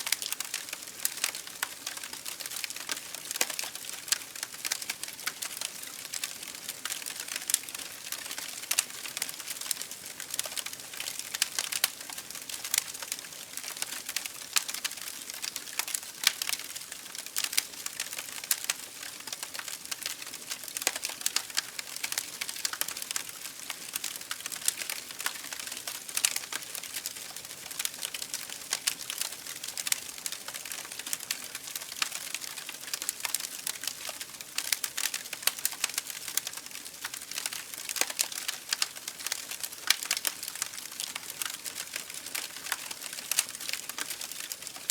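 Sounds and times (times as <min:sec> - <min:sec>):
campfire crackling: 0:00.1 - 0:44.9.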